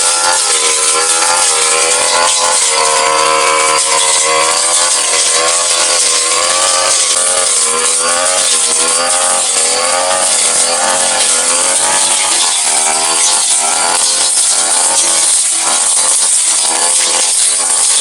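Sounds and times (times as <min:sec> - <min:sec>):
brush cutter cutting grass: 0:00.0 - 0:18.0.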